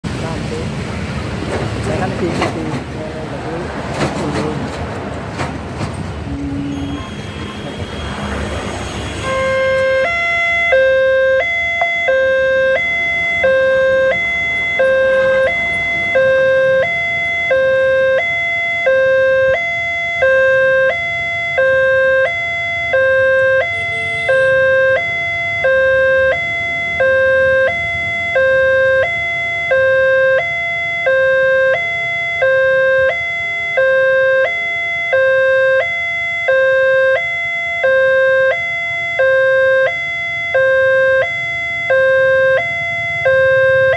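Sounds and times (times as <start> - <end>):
level crossing two-tone alarm: 6.5 - 43.9.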